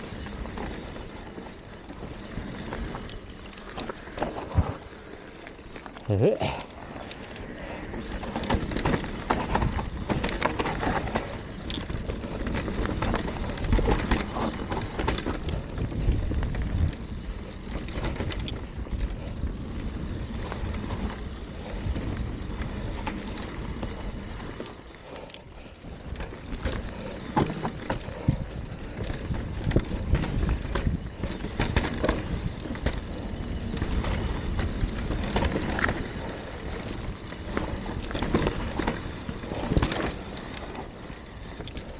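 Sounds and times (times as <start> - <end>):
bike knocking and rattling: 0.0 - 41.9.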